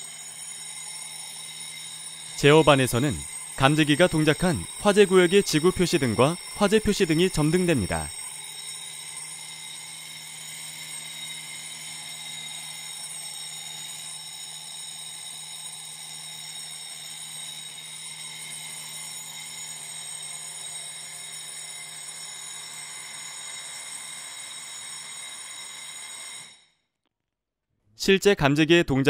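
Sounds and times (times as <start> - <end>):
fire alarm bell ringing: 0.0 - 26.8.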